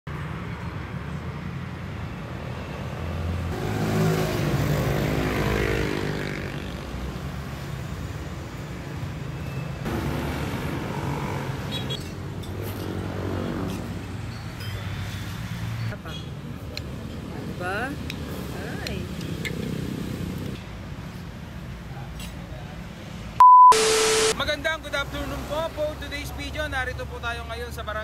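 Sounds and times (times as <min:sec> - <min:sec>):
low rumble of road traffic: 0:00.1 - 0:23.4, 0:24.3 - 0:28.0.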